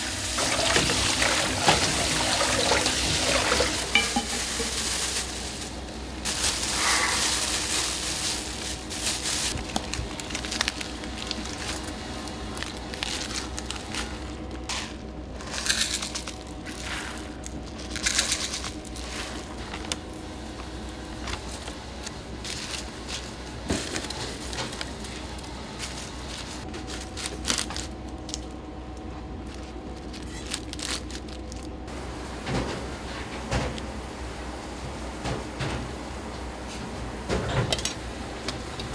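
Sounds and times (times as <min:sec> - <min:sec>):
steady machine hum: 0:00.0 - 0:38.9
crackling and rustling: 0:00.4 - 0:31.8.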